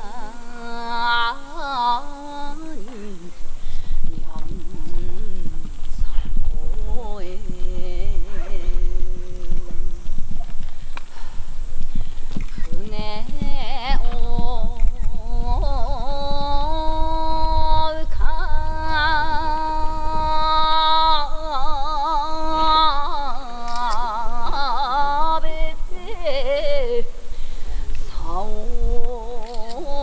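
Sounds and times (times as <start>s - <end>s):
steady low rumble: 0.0s - 30.0s
woman singing unaccompanied folk song: 0.0s - 30.0s.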